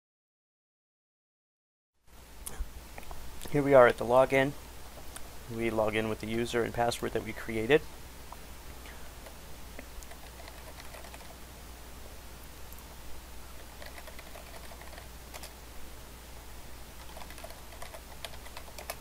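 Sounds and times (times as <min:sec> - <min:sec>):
low hum and hiss: 0:02.0 - 0:19.0.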